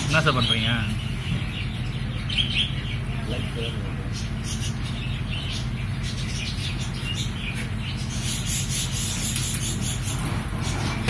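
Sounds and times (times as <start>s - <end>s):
chicks chirping: 0.0s - 11.0s
steady low hum: 0.0s - 11.0s.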